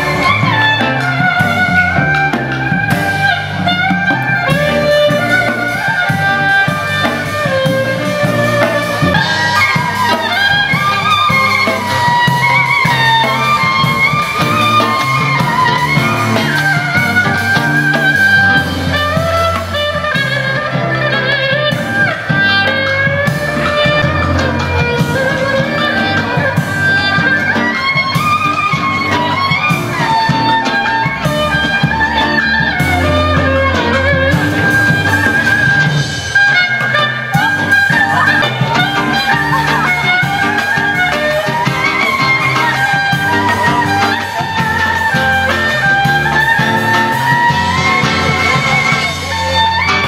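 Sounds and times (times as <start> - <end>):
bass line: 0.0 - 50.0
bowed two-string fiddle melody: 0.0 - 50.0
drum kit: 0.0 - 50.0
guitars playing: 0.0 - 50.0.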